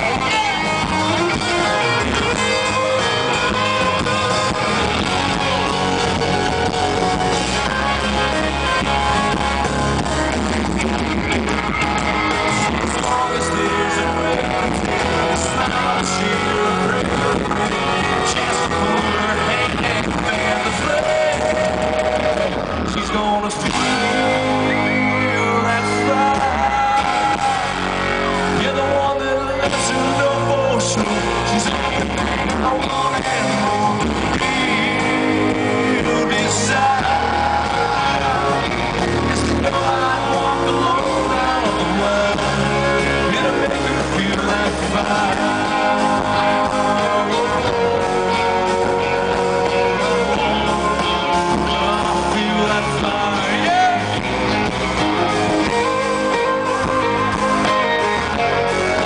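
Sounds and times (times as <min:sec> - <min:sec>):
electric guitar: 0:00.0 - 0:59.0
lead singer: 0:00.0 - 0:59.0
live country-rock band: 0:00.0 - 0:59.0.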